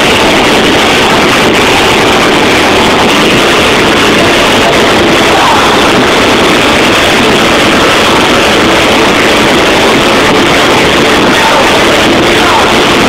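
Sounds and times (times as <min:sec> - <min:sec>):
distorted trance music: 0:00.0 - 0:13.0.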